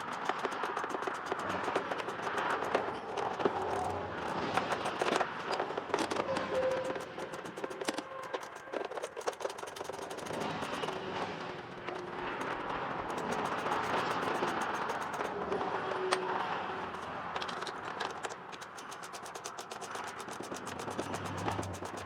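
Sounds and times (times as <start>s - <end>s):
hand tools clicking on metal: 0.0s - 11.0s, 11.8s - 15.4s, 16.8s - 22.0s.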